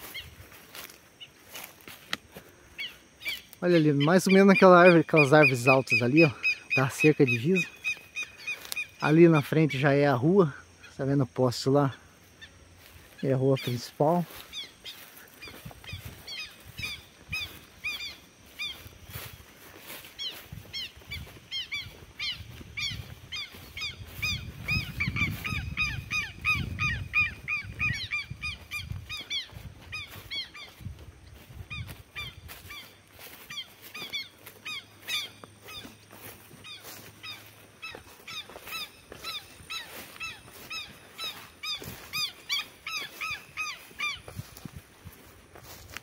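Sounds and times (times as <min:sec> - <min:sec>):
birds honking: 0:00.0 - 0:45.8.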